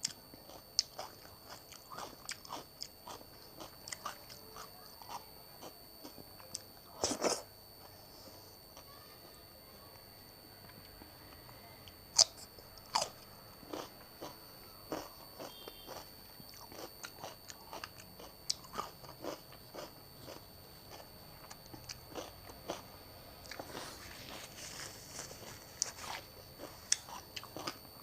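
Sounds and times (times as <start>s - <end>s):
person chewing crunchy food: 0.0s - 7.4s, 12.2s - 28.0s.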